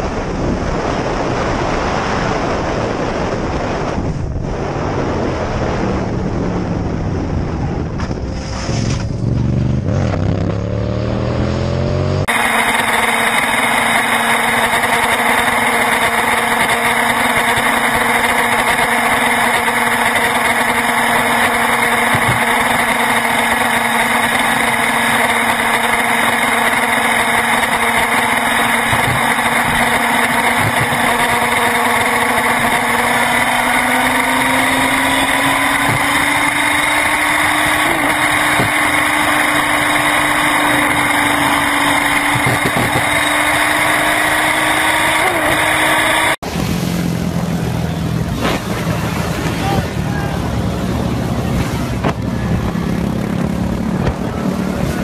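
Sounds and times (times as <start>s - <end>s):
motorcycle engine cruising: 0.0s - 55.0s
wind and road rush: 0.0s - 55.0s.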